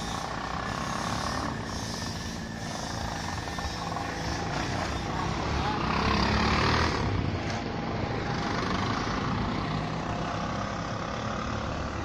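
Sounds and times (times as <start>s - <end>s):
auto rickshaw engine driving past: 0.0s - 12.0s.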